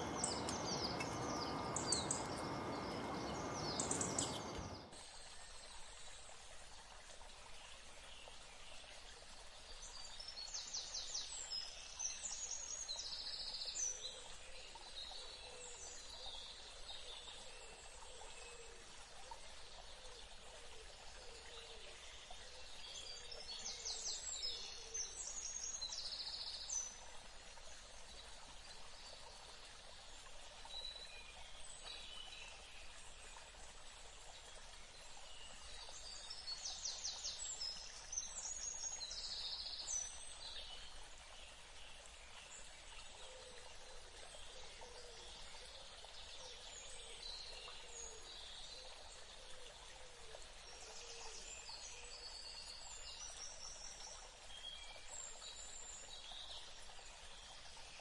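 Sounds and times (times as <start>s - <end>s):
small songbirds chirping: 0.0s - 5.9s, 6.9s - 58.0s
faint flowing water: 0.0s - 58.0s.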